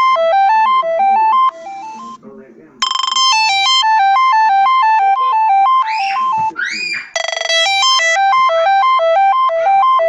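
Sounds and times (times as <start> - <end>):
synthesized ringtone tune: 0.0 - 2.2, 2.8 - 6.6, 7.2 - 10.0.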